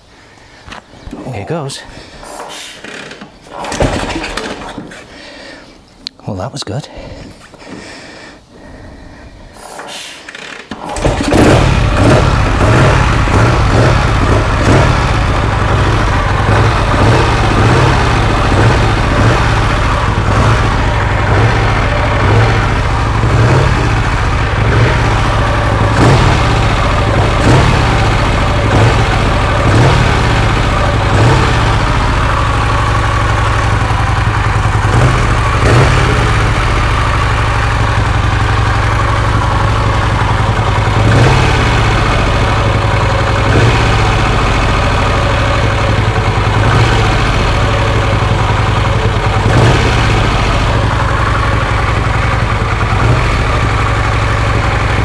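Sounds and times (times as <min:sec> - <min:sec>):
motorcycle engine kick-started: 0:02.2 - 0:05.6, 0:09.6 - 0:55.0
motorcycle engine running: 0:10.4 - 0:55.0.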